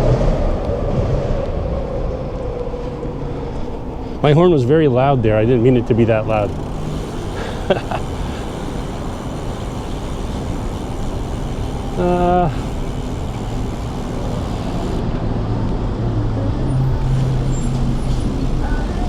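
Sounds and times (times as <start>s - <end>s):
steady wind: 0.0s - 19.0s
traffic noise: 0.0s - 19.0s.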